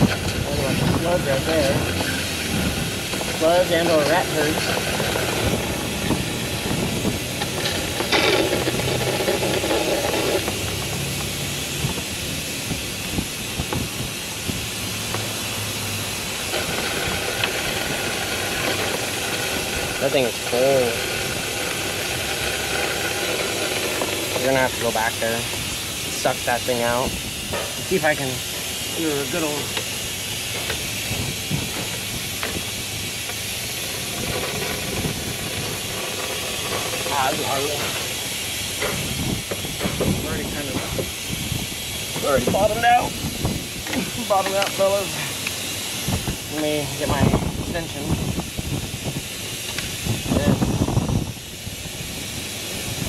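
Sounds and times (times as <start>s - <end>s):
hose tapping against engine: 0.0s - 12.1s, 12.7s - 47.3s
suction hose hissing: 0.0s - 53.0s.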